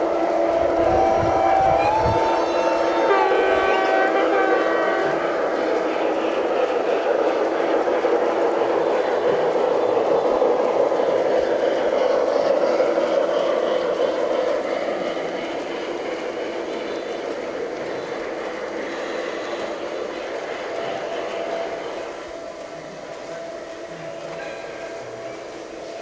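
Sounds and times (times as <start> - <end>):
model railway whirring and rolling: 0.0 - 26.0.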